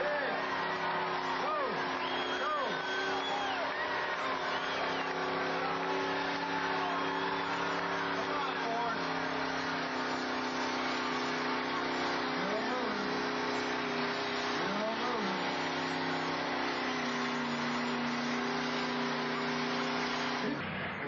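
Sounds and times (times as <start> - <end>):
short rising and falling tone: 0.0 - 21.0
truck engine running: 0.0 - 21.0.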